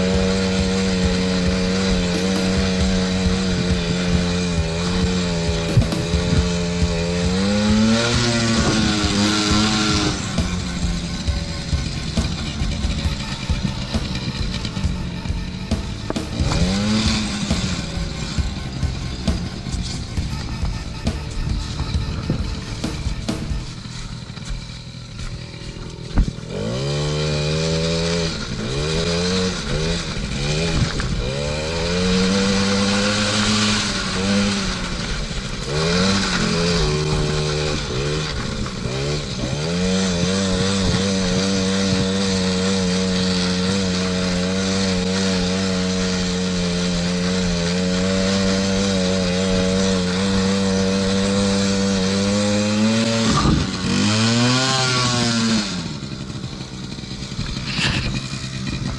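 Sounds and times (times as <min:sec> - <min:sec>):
quad bike engine revving: 0:00.0 - 0:58.9.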